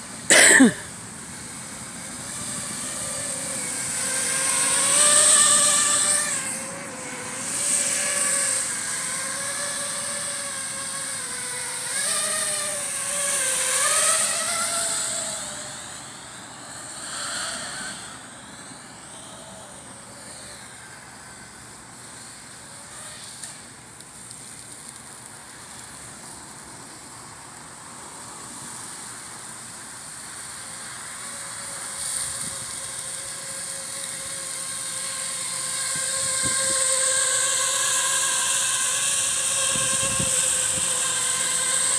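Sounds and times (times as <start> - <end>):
drone motors whining: 0.3 - 23.8, 30.4 - 41.9.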